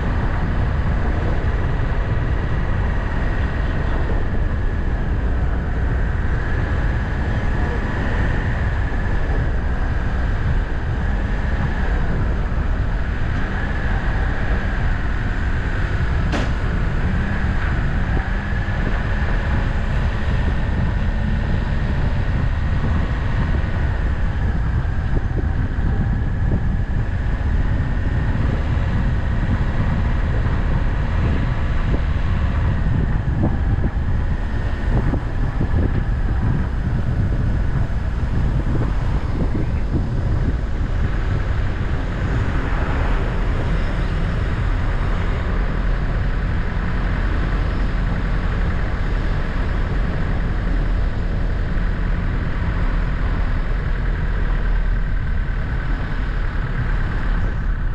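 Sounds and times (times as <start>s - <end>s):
engine and road rumble: 0.0s - 57.9s
steady high hum: 0.0s - 57.9s
wind on microphone: 0.0s - 57.9s.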